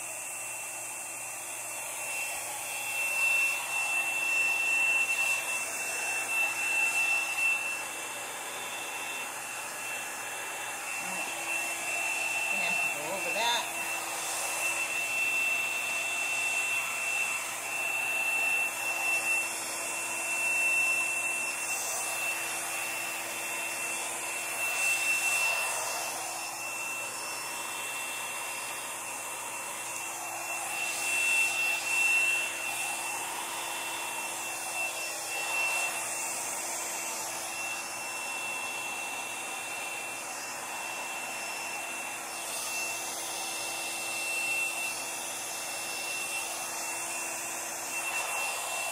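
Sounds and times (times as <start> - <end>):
hair dryer blowing: 0.0 - 48.9.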